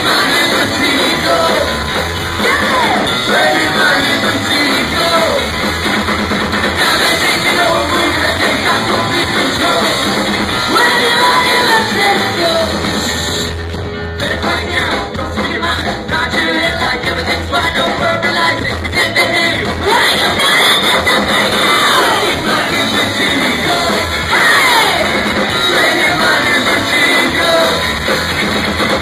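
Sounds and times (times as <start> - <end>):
person singing: 0.0 - 5.5, 6.7 - 12.9, 14.1 - 28.1
drum kit: 0.0 - 29.0
electric guitars and bass: 0.0 - 29.0.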